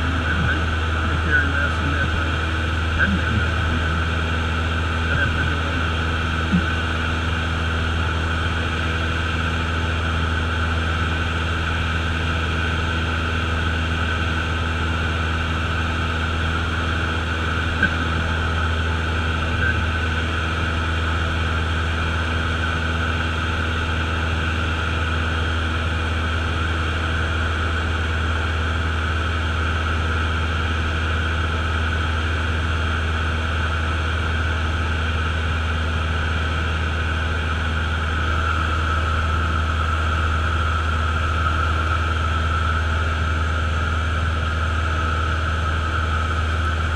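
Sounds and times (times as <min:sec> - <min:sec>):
propeller aircraft engine droning: 0:00.0 - 0:46.9.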